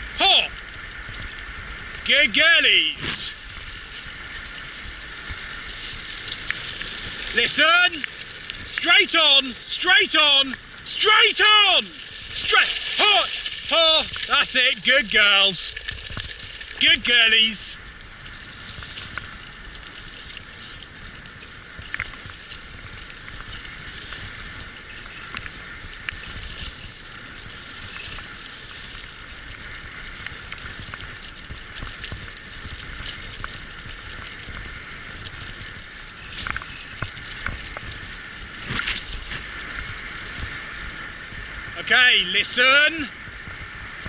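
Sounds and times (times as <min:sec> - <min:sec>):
wheels crunching over trail: 0:00.0 - 0:44.0.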